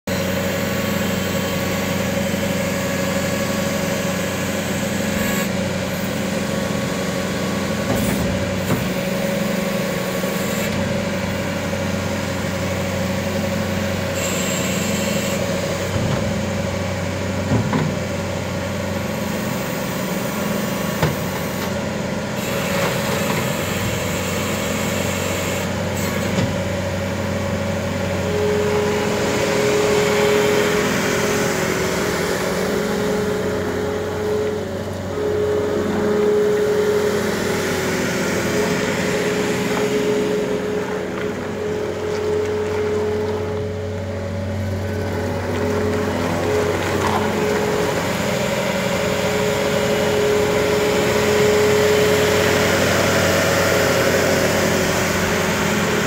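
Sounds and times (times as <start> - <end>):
diesel engine running: 0.0 - 56.0
high steady machine whine: 0.1 - 17.7, 18.5 - 56.0.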